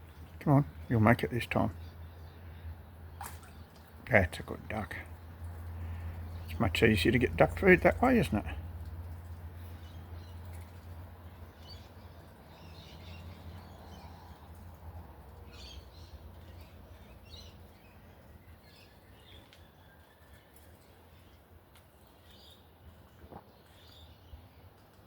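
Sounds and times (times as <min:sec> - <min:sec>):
low outdoor hum: 0:00.0 - 0:25.0
small birds chirping: 0:00.0 - 0:25.0.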